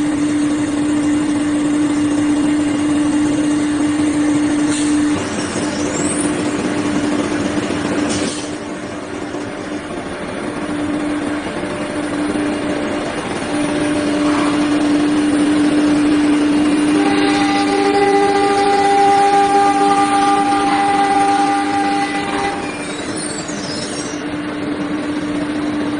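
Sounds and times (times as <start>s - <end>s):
cnc router machining: 0.0s - 25.9s
pitched whine: 0.0s - 25.9s
steady hum: 0.0s - 25.9s.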